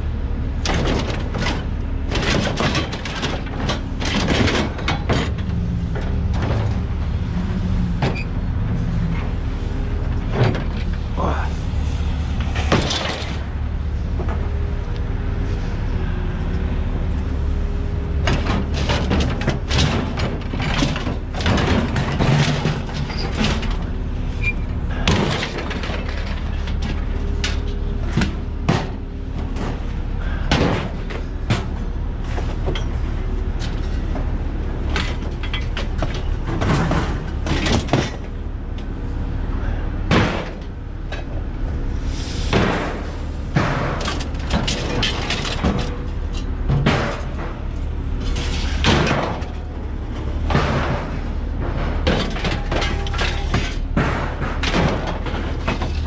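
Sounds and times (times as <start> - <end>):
steady low hum: 0.0 - 56.0
scrap metal clanking and banging: 0.6 - 56.0.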